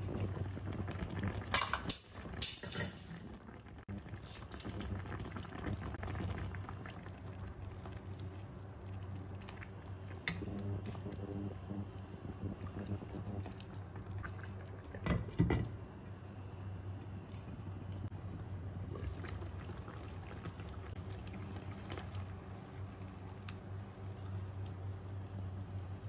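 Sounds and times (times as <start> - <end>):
liquid simmering and bubbling: 0.0 - 2.4, 3.1 - 26.0.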